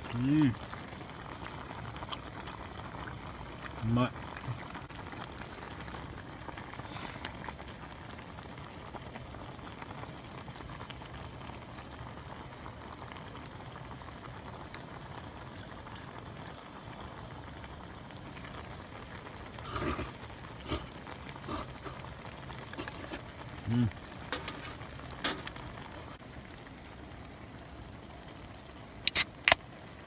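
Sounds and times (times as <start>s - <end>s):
pot simmering with bubbling hiss: 0.0s - 30.0s.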